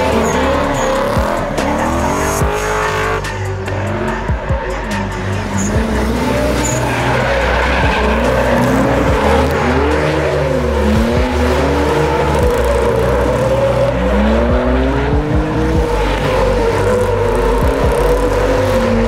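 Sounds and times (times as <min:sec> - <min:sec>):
car engines revving: 0:00.0 - 0:19.0
tyres squealing: 0:00.0 - 0:19.0.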